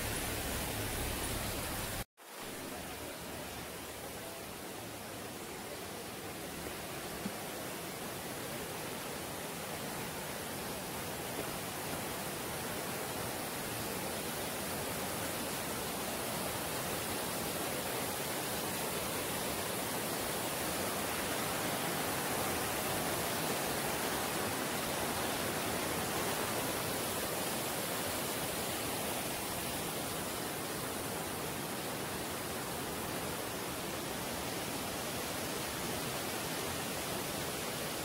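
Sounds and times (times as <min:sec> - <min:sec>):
river rushing over boulders: 0:00.0 - 0:38.0.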